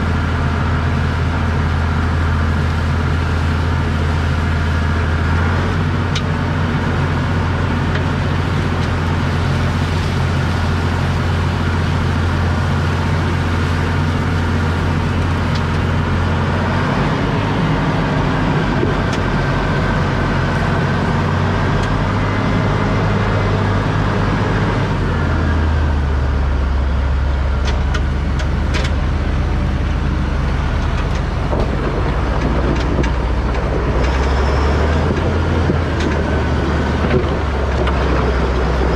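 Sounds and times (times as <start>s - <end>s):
heavy vehicle engine droning: 0.0s - 38.9s.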